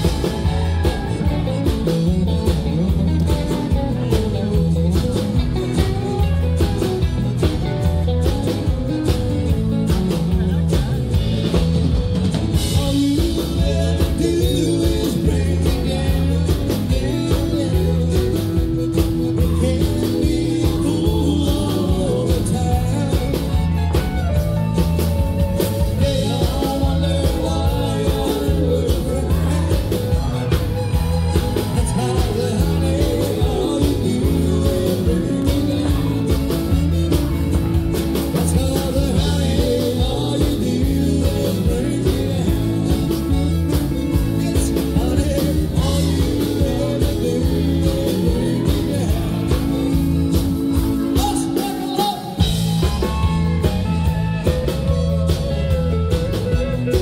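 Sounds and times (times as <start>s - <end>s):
country-rock band playing: 0.0s - 57.0s.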